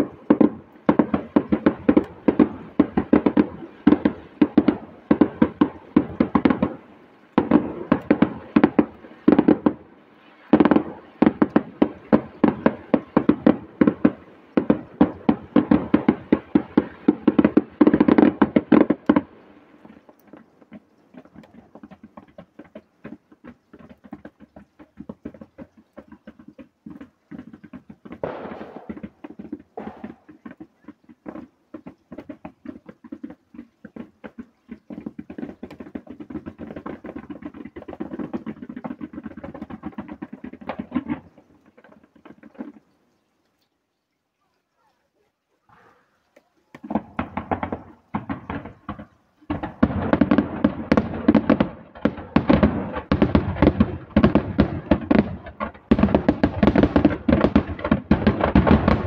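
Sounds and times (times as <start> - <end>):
firework bangs: 0.0 - 42.9, 46.7 - 59.0.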